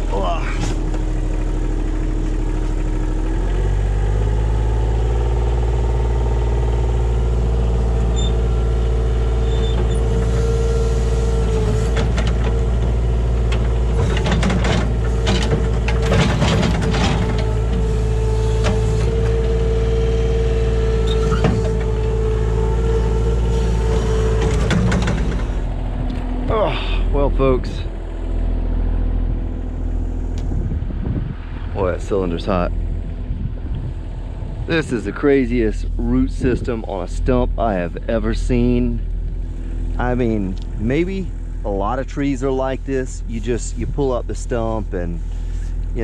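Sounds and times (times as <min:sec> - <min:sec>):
hydraulic whine: 0:00.0 - 0:37.6
excavator diesel engine: 0:00.0 - 0:46.0.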